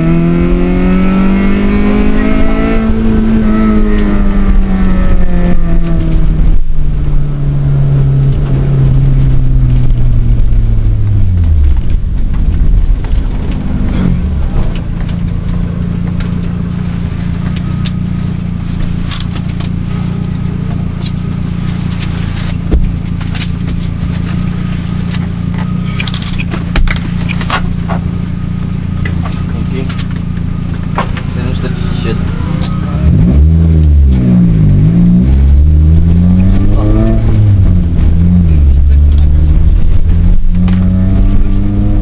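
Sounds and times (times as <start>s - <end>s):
car engine heard from inside: 0.0s - 42.0s.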